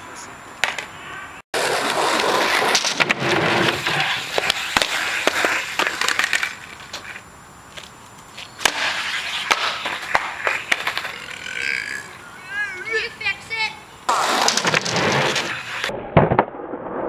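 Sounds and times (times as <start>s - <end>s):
skateboard wheels rolling on pavement: 0.0s - 15.9s.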